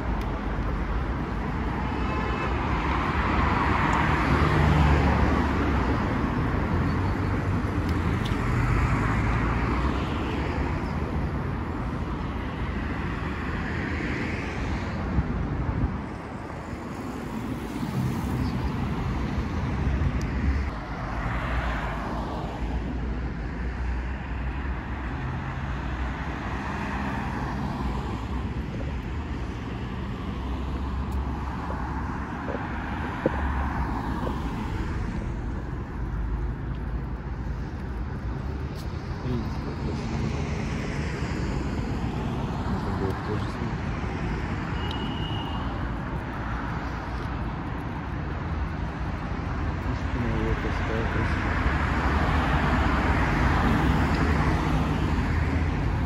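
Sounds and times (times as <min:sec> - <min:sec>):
road traffic rumble: 0:00.0 - 0:56.0
vehicles passing: 0:00.0 - 0:56.0.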